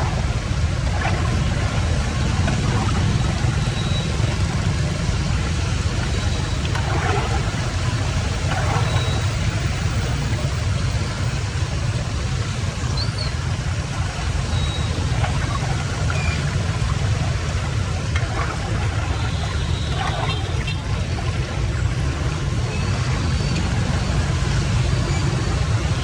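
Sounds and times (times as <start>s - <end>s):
rushing floodwater: 0.0s - 26.0s.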